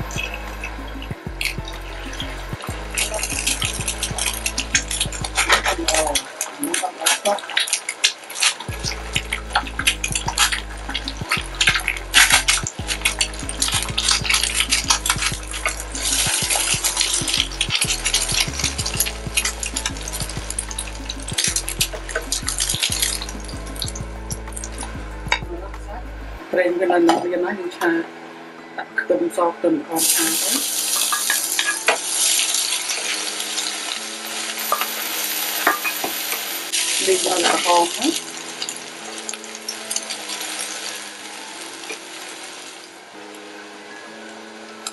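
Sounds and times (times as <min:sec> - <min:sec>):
egg sizzling in oil: 0:00.0 - 0:25.0, 0:30.0 - 0:43.5.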